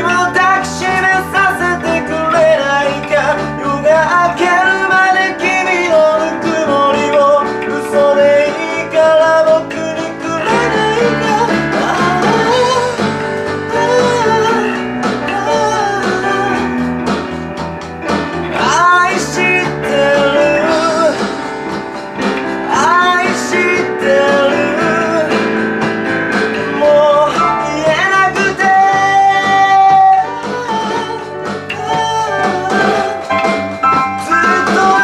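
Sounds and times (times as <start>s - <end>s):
digital piano chords: 0.0s - 35.0s
electric bass: 0.0s - 35.0s
electronic drum kit: 0.0s - 35.0s
sliding melody line: 0.0s - 35.0s.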